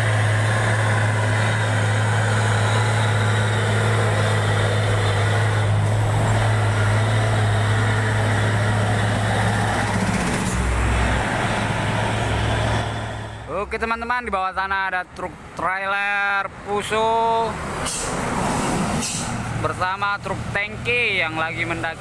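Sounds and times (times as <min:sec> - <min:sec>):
heavy diesel trucks passing: 0:00.0 - 0:22.0.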